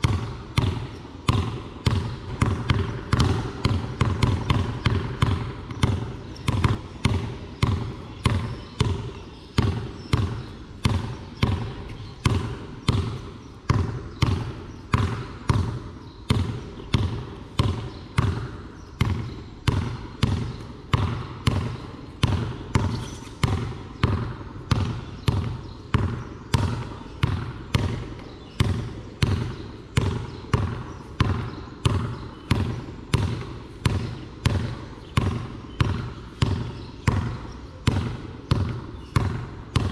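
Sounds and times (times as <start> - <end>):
basketball bouncing on concrete: 0.0 - 39.9.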